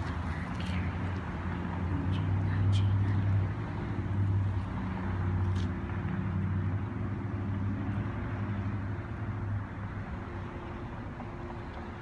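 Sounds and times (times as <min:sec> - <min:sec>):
road and tyre noise: 0:00.0 - 0:12.0.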